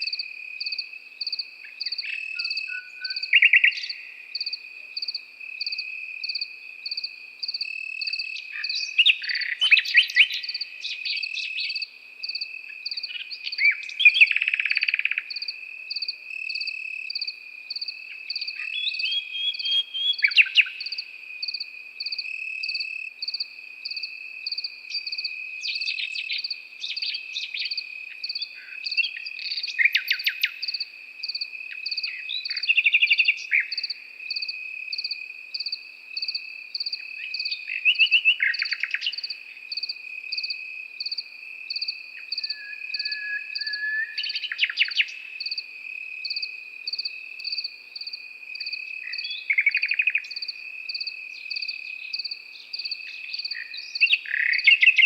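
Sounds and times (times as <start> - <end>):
cricket chirping: 0.0 - 55.0
nightingale singing: 0.0 - 55.0.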